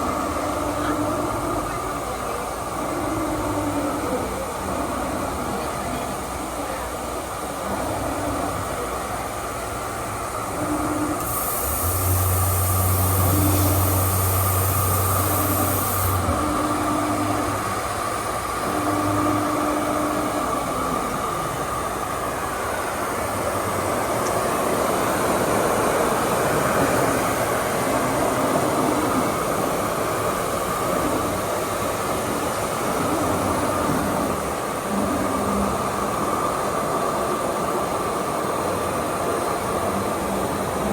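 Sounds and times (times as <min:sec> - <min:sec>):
machinery hum and hiss: 0:00.0 - 0:40.9.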